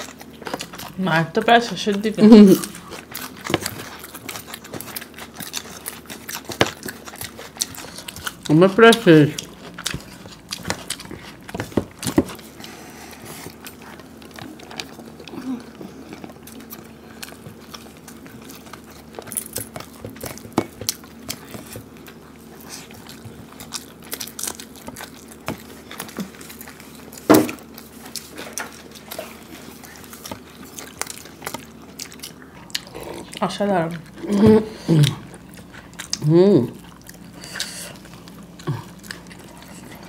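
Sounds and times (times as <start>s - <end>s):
chewing: 0.0s - 40.0s.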